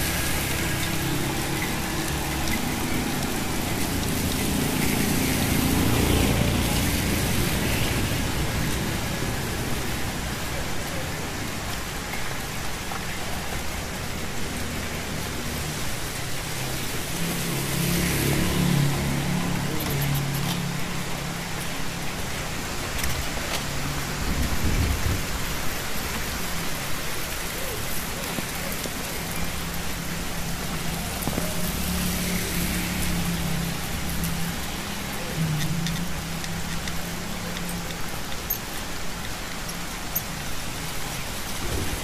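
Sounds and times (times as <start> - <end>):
rain on an umbrella: 0.0 - 42.0.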